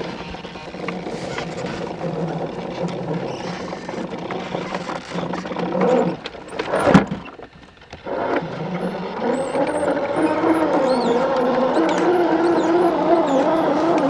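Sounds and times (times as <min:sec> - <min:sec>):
electric motor whining: 0:00.0 - 0:14.0
toy truck scraping and knocking on wood: 0:00.0 - 0:14.0.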